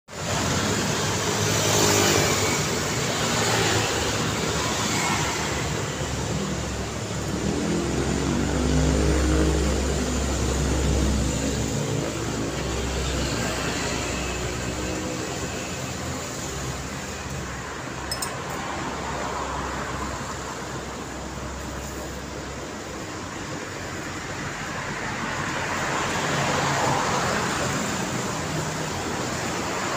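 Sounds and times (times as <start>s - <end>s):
cars passing: 0.1s - 29.9s
motorcycles passing: 0.2s - 29.9s.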